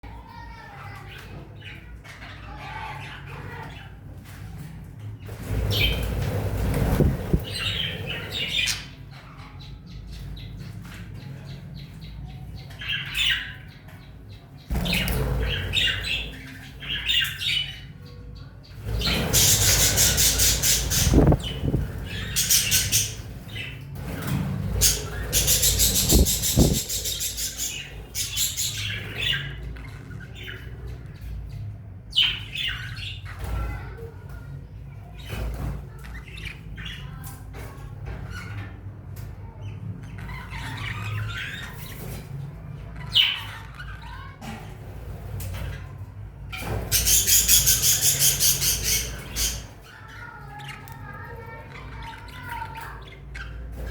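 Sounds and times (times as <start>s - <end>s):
birds chirping and squawking: 0.0s - 53.9s.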